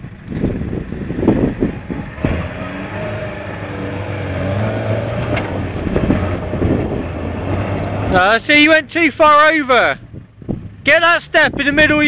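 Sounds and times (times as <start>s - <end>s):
truck engine pulling under load: 0.0s - 11.8s.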